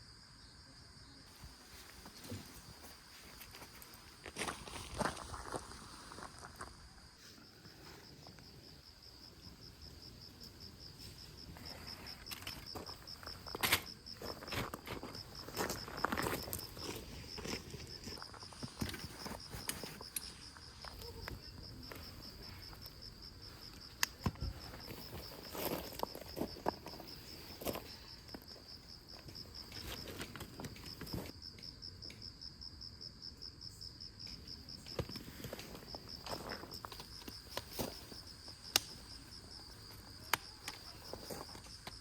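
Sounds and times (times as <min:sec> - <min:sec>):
crickets chirping: 0:00.0 - 0:42.0.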